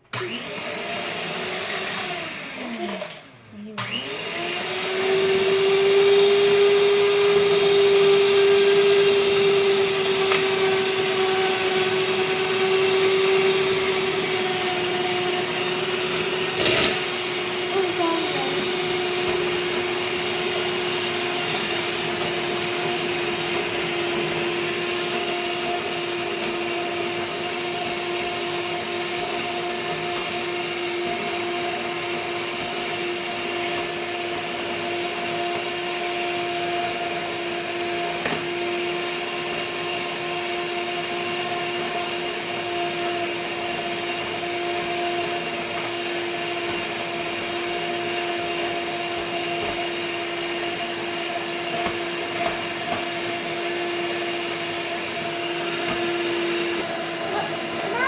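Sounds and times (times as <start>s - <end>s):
electric hand mixer whining: 0.0s - 58.0s.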